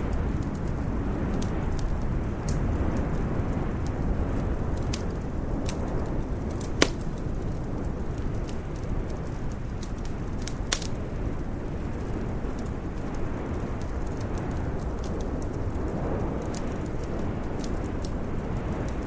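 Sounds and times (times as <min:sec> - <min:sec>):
steady low rumble: 0:00.0 - 0:19.0
wood fire crackling: 0:00.0 - 0:19.0.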